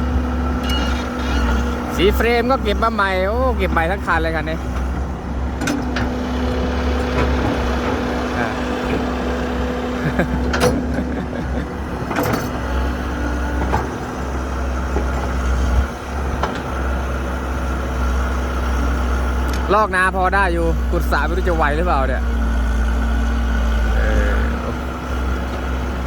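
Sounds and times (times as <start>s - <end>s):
heavy diesel engines running: 0.0s - 26.0s.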